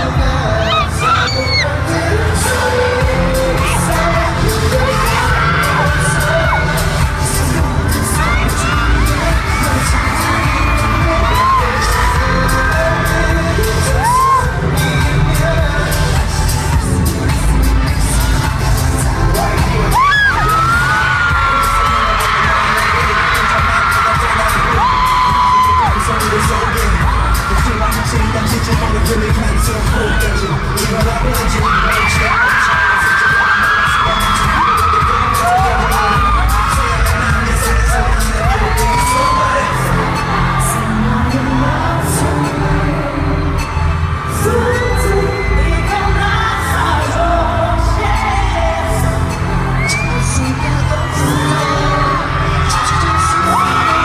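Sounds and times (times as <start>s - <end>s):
heavy bass: 0.0s - 54.0s
live concert music: 0.0s - 54.0s
person singing: 0.0s - 54.0s.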